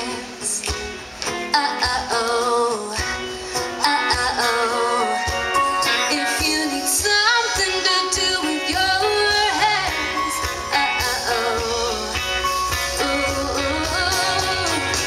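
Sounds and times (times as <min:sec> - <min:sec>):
drums: 0:00.0 - 0:15.0
electric guitar: 0:00.0 - 0:15.0
live band playing: 0:00.0 - 0:15.0
woman singing: 0:00.0 - 0:15.0.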